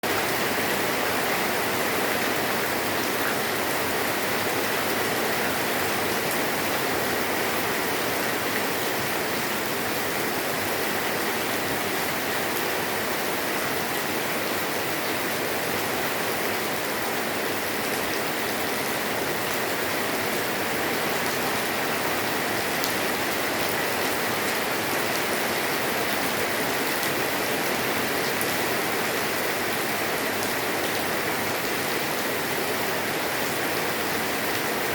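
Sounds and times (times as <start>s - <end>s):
light rain on a roof: 0.0s - 34.9s.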